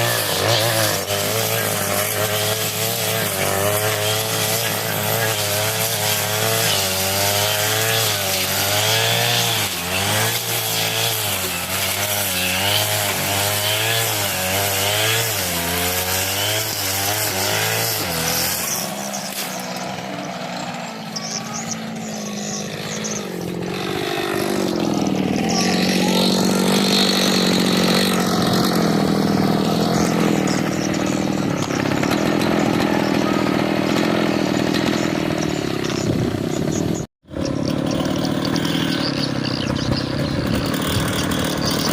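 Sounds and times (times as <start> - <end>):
brush cutter engine running: 0.0 - 41.9.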